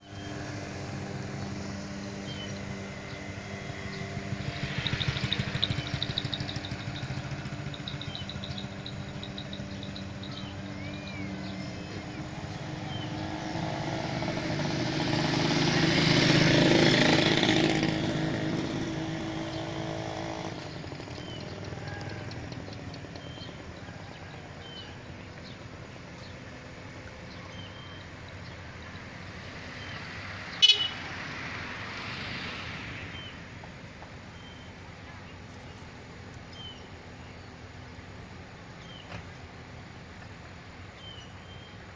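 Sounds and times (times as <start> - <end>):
motor engine passing: 0.0 - 41.9.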